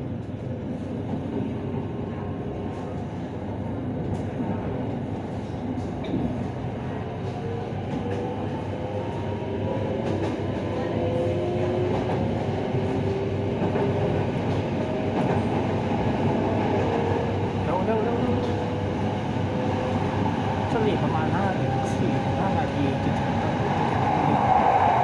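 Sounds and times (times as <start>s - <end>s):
train wheel and rail rumble: 0.0s - 25.0s.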